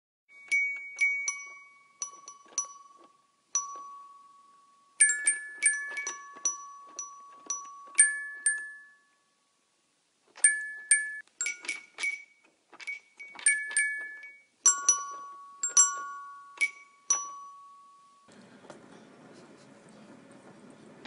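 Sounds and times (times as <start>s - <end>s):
toy xylophone notes plinking: 0.3s - 9.2s, 10.4s - 18.3s.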